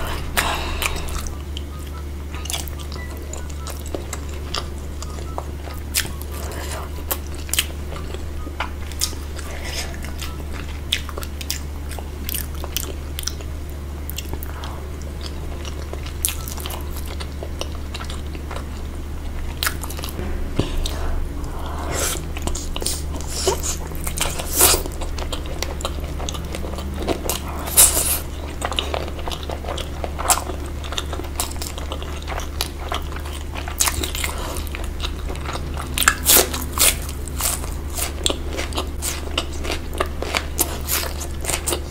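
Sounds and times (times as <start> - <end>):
chewing crunchy food: 0.0 - 41.9
steady low hum: 0.0 - 41.9.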